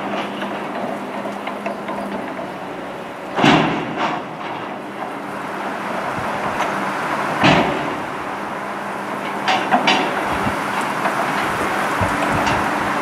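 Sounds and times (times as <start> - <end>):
train wheels rumbling on rail: 0.0 - 13.0
wheels knocking over rail joints: 0.0 - 13.0.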